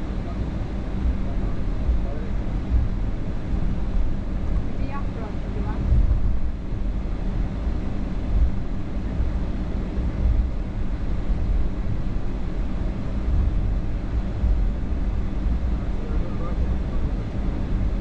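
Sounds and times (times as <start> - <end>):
aircraft engine rumble in cabin: 0.0 - 18.0.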